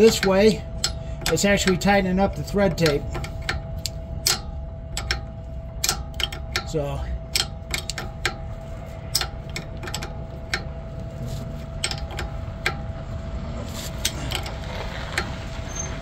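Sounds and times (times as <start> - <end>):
socket ratchet clicking: 0.0 - 11.0, 11.6 - 13.2, 13.9 - 16.0.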